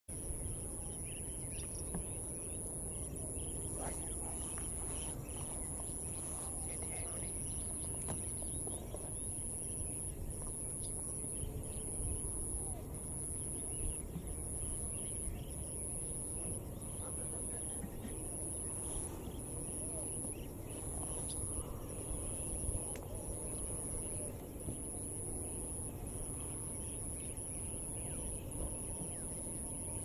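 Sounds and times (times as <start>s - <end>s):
faint bird chirps: 0.1s - 30.0s
low rumbling haze: 0.1s - 30.0s.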